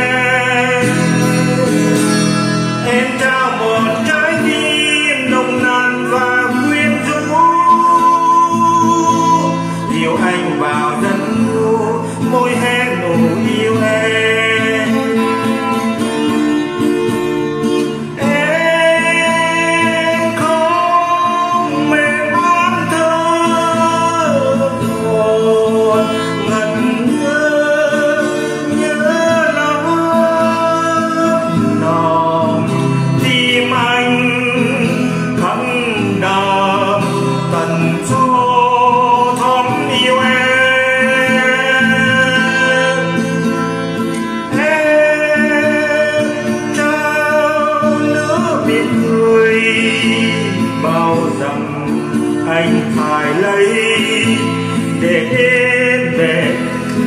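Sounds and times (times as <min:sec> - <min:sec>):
acoustic guitar: 0:00.0 - 0:57.0
man singing love song: 0:00.0 - 0:57.0.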